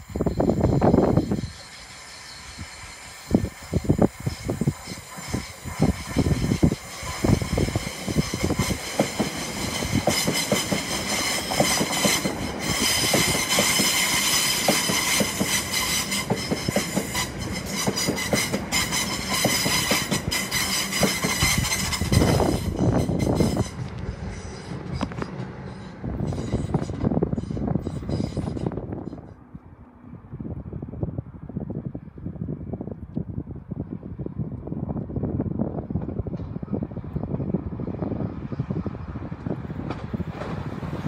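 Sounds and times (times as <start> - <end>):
train approaching: 0.0 - 32.2, 34.9 - 41.0
electric train passing: 0.0 - 32.8, 33.7 - 41.0.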